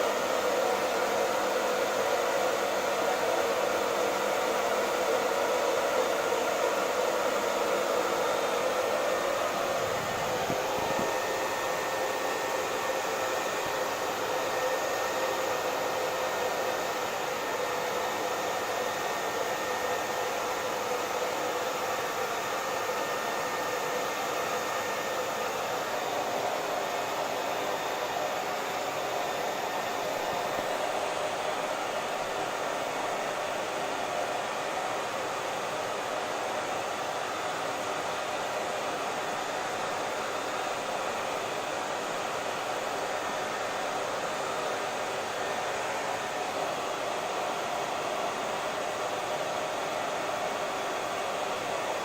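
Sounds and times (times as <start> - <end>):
hair dryer blowing: 0.0 - 52.0.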